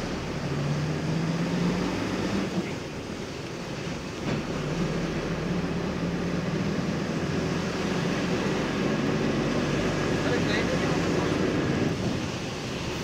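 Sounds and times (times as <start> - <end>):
road and tyre noise: 0.0 - 13.0
vehicle engine hum: 0.0 - 13.0.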